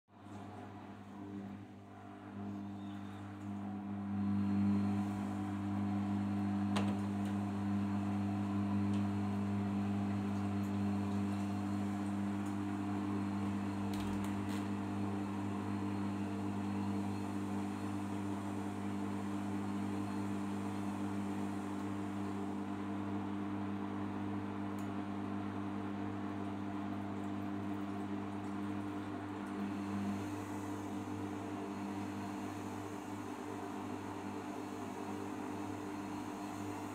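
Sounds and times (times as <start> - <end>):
motor hum: 0.3 - 36.9.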